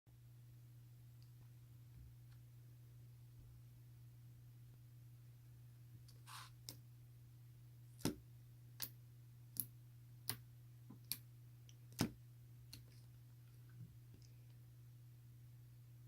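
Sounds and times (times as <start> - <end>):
low electrical hum: 0.1 - 16.0.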